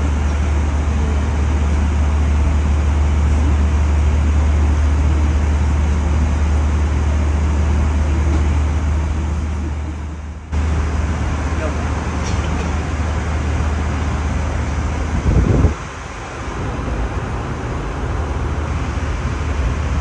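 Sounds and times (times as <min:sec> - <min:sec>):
airliner cabin rumble and hiss: 0:00.0 - 0:20.0.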